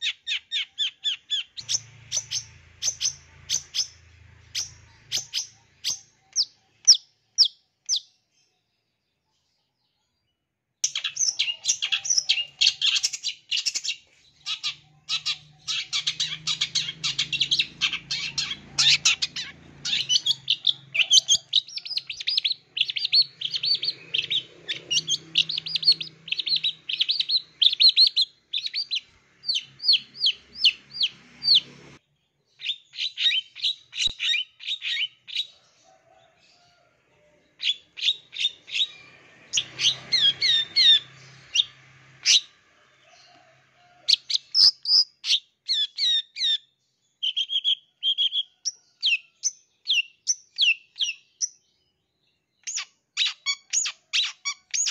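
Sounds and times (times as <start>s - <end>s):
bird singing with chirps and whistles: 0.0s - 8.1s, 10.8s - 31.8s, 32.6s - 35.5s, 37.6s - 42.5s, 44.1s - 51.6s, 52.6s - 54.9s.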